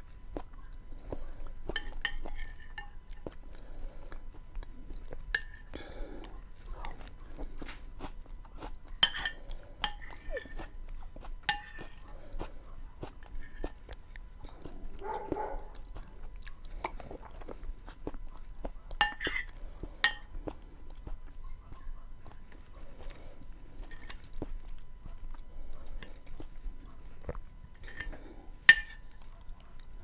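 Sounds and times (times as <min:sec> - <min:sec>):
close chewing with wet mouth sounds: 0:00.0 - 0:30.0.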